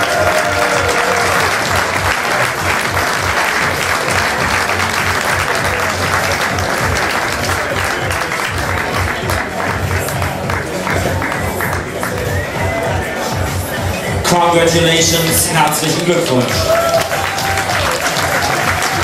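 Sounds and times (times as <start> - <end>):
crowd applauding: 0.0 - 13.8, 14.6 - 19.0
music playing: 0.0 - 19.0.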